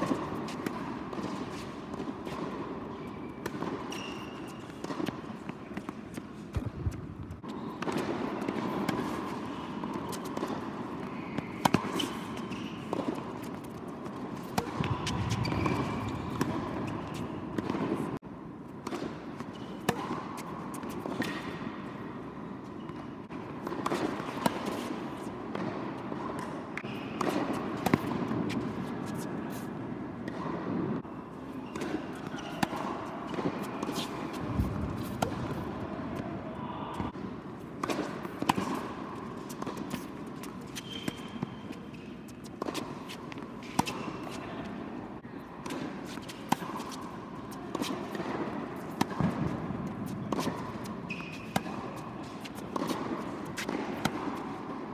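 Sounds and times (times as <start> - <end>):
tennis ball bouncing on hard court: 0.0 - 18.2, 18.8 - 21.8, 22.8 - 31.0, 31.6 - 36.4, 37.2 - 45.0, 45.6 - 54.9
large hall background: 0.0 - 54.9.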